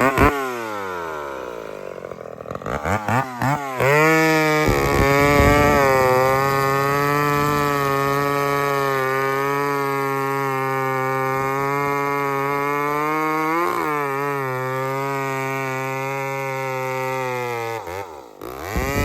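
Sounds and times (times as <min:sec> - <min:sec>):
chainsaw running: 0:00.0 - 0:19.0.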